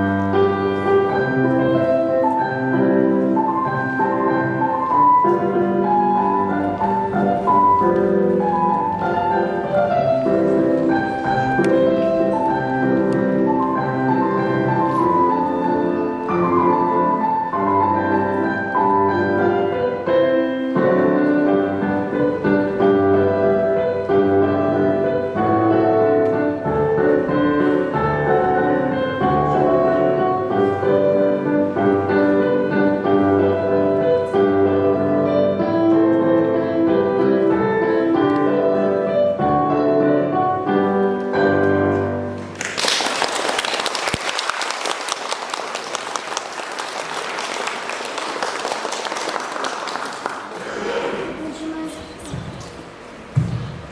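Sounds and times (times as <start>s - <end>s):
classical piano music: 0.0s - 53.9s.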